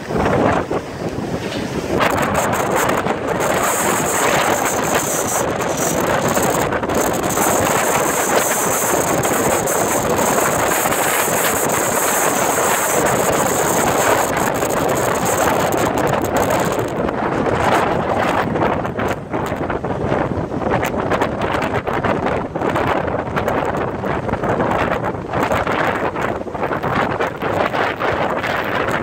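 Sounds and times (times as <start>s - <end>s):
storm surf breaking on rocks: 0.0s - 29.0s
wind buffeting microphone: 0.0s - 29.0s.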